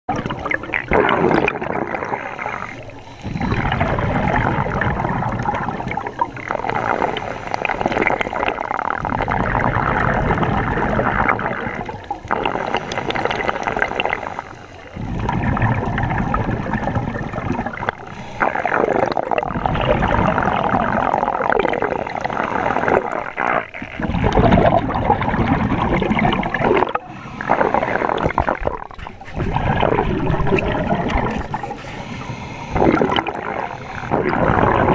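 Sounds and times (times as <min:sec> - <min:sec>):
underwater regulator breathing bubbles: 0:00.1 - 0:34.9.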